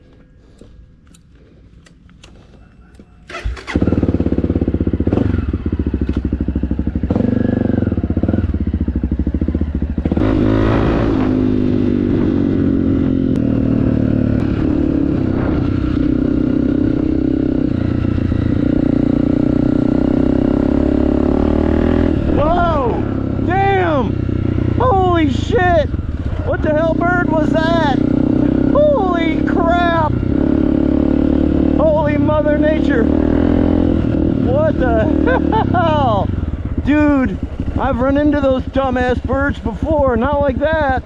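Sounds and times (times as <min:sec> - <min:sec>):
dirt bike engine revving: 0:03.3 - 0:41.0.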